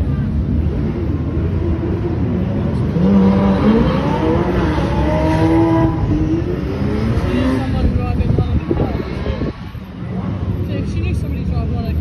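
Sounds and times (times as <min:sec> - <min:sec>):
engines revving: 0:00.0 - 0:12.0
sports cars driving past: 0:00.0 - 0:12.0.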